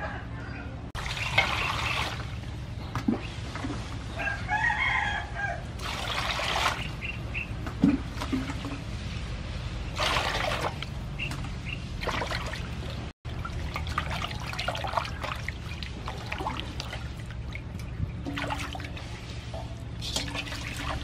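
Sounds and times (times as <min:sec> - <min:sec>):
water splashing in metal basin: 0:01.0 - 0:04.0, 0:05.8 - 0:09.0, 0:09.9 - 0:21.0.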